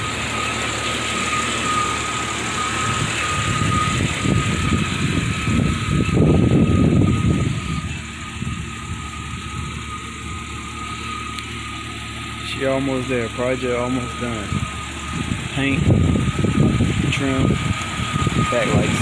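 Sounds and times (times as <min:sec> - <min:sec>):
car engine high whine: 0:00.0 - 0:19.0
engine rumbling surge: 0:00.0 - 0:19.0.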